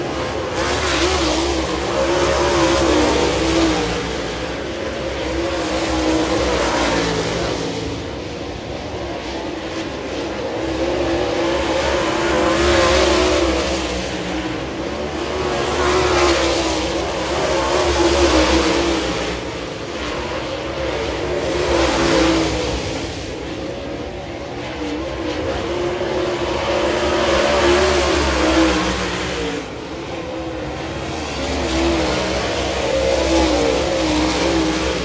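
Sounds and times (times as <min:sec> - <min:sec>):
race car engines at full throttle: 0:00.0 - 0:35.0.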